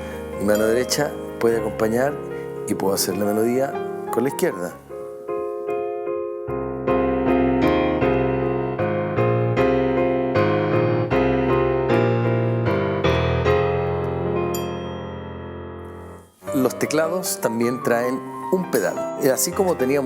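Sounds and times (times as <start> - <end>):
electronic keyboard piano chords: 0.0 - 20.0.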